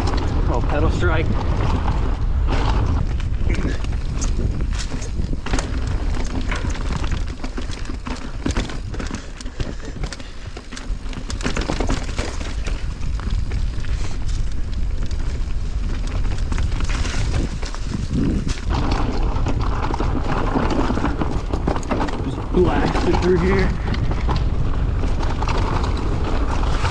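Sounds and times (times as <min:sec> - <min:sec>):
bike rattling over rocks: 0:00.0 - 0:26.9
wind rumble on microphone: 0:00.0 - 0:26.9.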